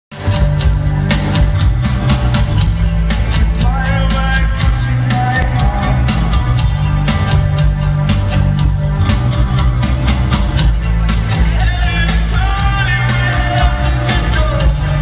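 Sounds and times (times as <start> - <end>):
heavy bass: 0.1 - 15.0
live rock band: 0.1 - 15.0
steady drum beat: 0.2 - 15.0.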